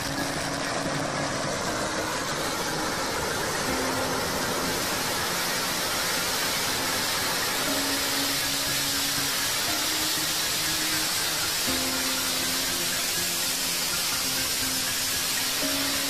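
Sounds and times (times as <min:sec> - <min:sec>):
firecrackers crackling: 0:00.0 - 0:16.0.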